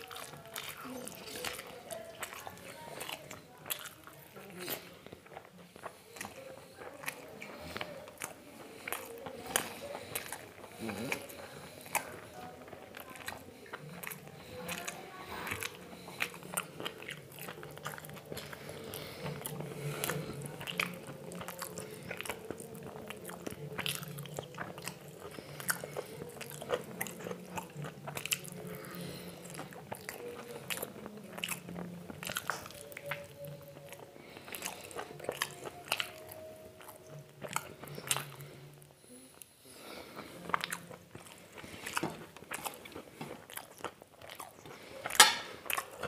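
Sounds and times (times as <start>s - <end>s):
wet mouth clicks and crunches: 0.0s - 38.4s, 40.4s - 46.0s
chewing and biting: 0.0s - 46.0s.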